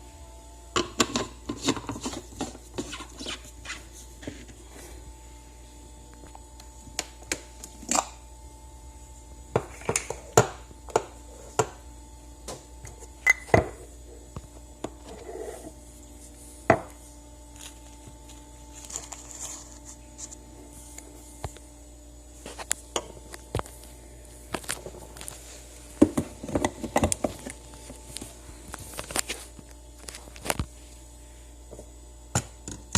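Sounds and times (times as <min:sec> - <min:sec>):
faint hum: 0:00.0 - 0:32.9.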